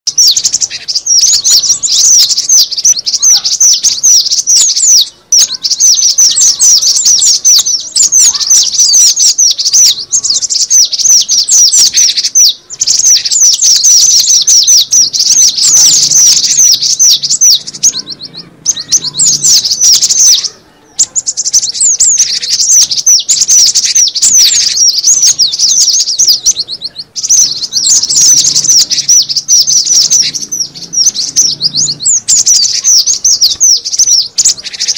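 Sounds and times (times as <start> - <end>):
bird chirping rapidly: 0.1 - 34.9.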